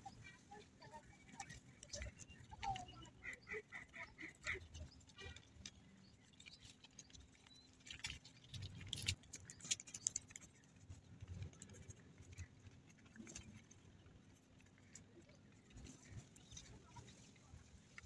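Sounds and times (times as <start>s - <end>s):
toothbrush scrubbing chain: 1.3s - 17.1s.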